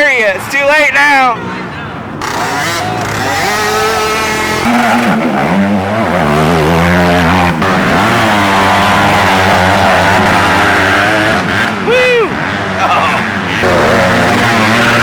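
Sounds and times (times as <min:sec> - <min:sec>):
quad engines revving: 0:02.0 - 0:15.0.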